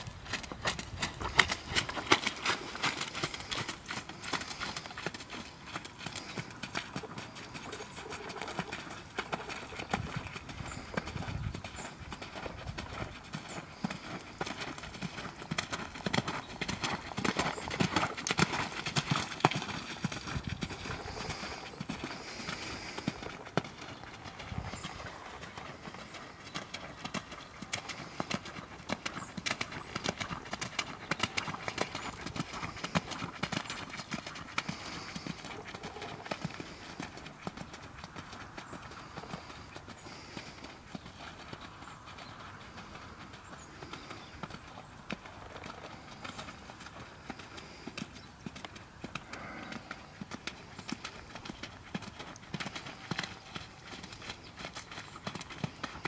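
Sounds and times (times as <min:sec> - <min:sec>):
horse hoofbeats on wet sand: 0:00.0 - 0:56.0.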